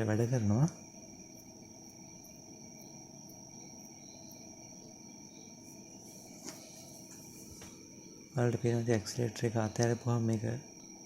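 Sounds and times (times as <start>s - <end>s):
high-pitched insect chirring: 0.0s - 11.0s
low background hiss: 0.0s - 11.0s.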